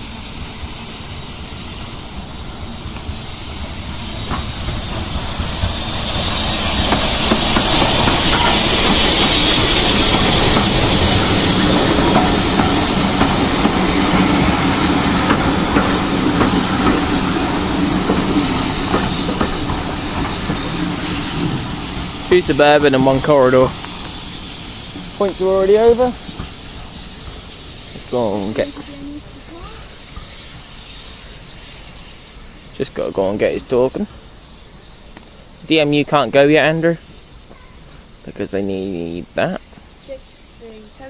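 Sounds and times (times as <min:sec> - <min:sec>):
steam hissing: 0:00.0 - 0:41.0
train rolling on rails: 0:00.0 - 0:41.0.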